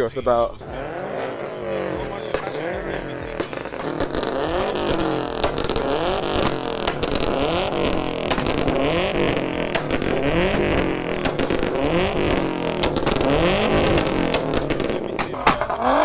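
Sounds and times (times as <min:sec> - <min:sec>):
car engines revving: 0:00.0 - 0:16.0
exhaust pops and cracks: 0:00.0 - 0:16.0.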